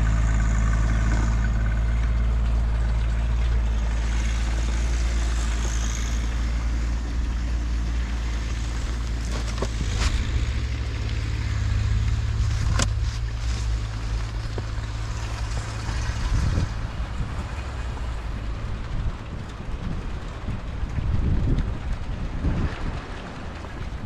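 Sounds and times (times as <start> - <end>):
low engine rumble: 0.0 - 24.0
wind noise: 3.1 - 24.0.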